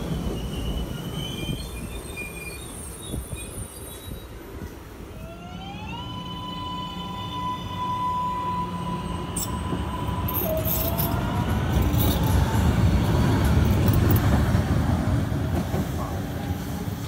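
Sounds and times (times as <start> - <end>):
train wheels rumbling on rail: 0.0 - 5.3, 8.6 - 17.0.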